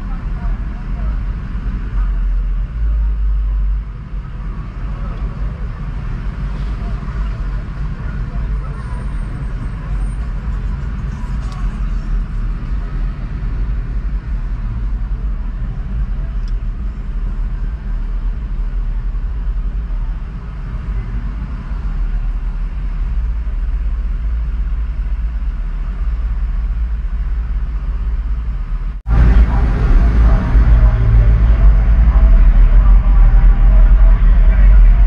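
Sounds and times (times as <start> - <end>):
car engine and road noise: 0.0 - 35.0
hum of surrounding traffic: 0.0 - 35.0.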